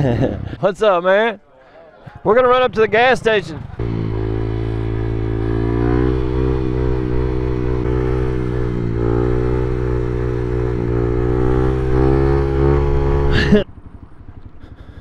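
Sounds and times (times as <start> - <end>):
motorcycle engine running: 2.1 - 15.0.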